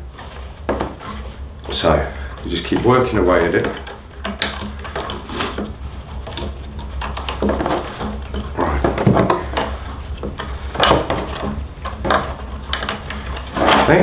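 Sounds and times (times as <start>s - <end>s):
rubbing and scraping of hide: 0.0s - 14.0s
sharp knocks: 2.7s - 14.0s.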